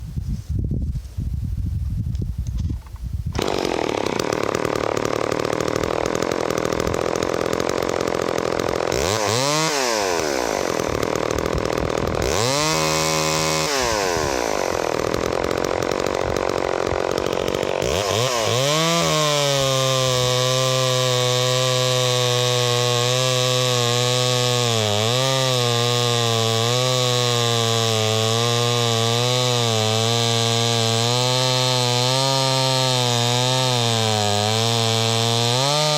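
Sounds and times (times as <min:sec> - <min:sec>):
chainsaw revving and cutting log: 0:03.3 - 0:35.9.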